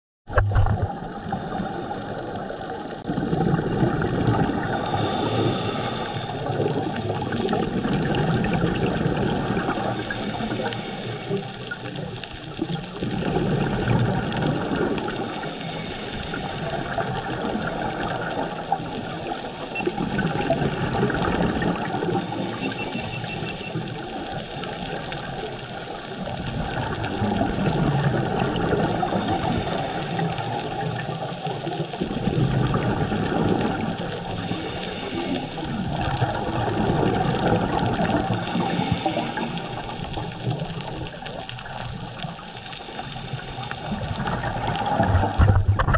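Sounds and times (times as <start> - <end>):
regulator bubbles gurgling: 0.3 - 45.9
watery hiss: 4.4 - 7.6, 8.4 - 12.5, 13.4 - 31.9, 32.7 - 45.1.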